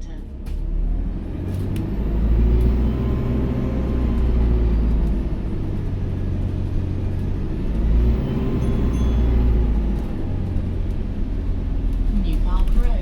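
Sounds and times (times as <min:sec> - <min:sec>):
bus engine rumble with whine: 0:00.0 - 0:13.0.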